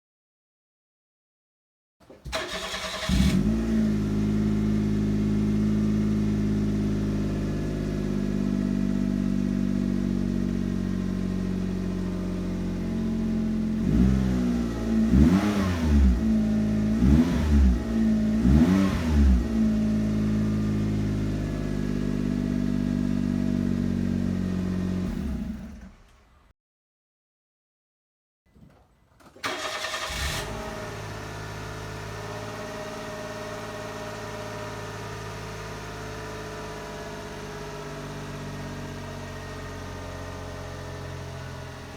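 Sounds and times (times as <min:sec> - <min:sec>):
engine starting idling and revving: 0:02.3 - 0:26.5, 0:29.4 - 0:41.9.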